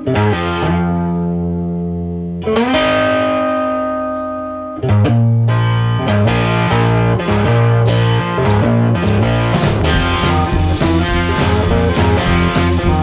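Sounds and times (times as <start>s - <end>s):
guitar music: 0.0s - 13.0s.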